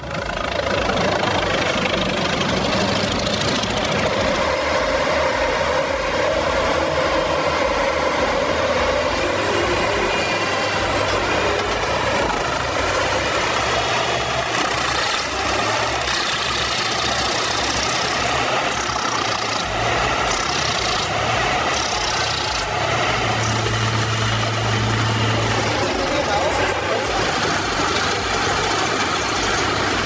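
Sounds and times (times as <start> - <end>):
higher-pitched noise surges: 0.0 - 30.0
large machine engine running: 0.0 - 30.0.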